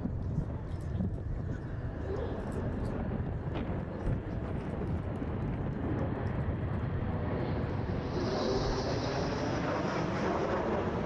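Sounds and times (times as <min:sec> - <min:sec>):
jet engine rush: 0:00.0 - 0:11.0.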